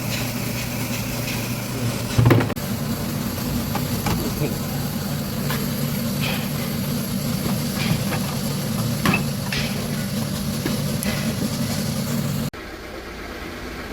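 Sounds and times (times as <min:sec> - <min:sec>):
machine humming: 0:00.0 - 0:13.9.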